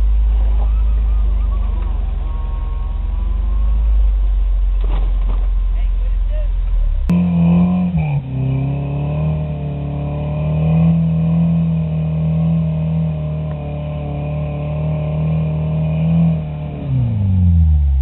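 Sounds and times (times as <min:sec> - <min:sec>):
truck engine under load: 0:00.0 - 0:18.0.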